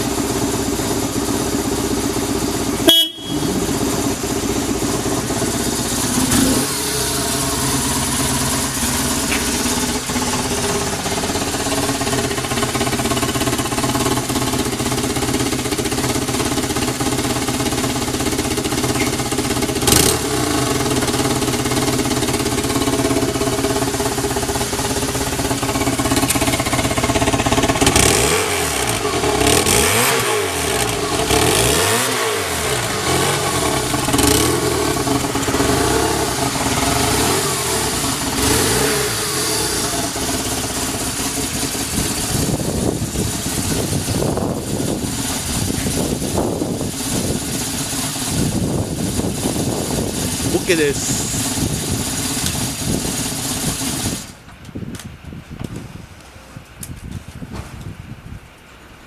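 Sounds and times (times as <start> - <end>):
motorcycle engine idling and revving: 0.0 - 54.5.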